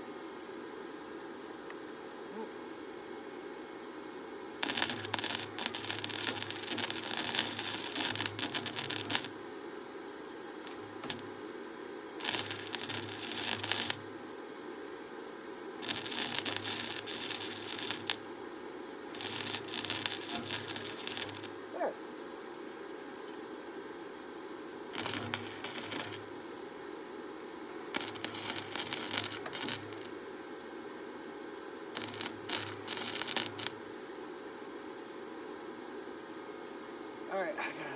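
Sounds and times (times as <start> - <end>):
steady machine hum: 0.0 - 37.9.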